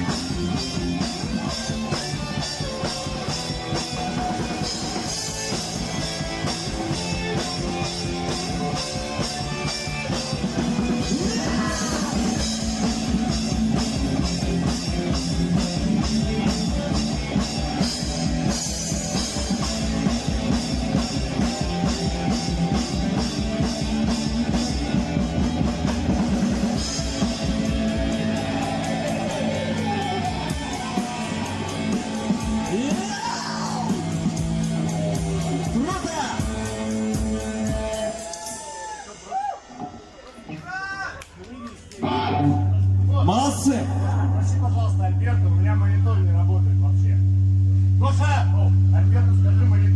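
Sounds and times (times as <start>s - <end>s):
drum kit: 0.0s - 40.8s
electric guitar: 0.0s - 46.1s.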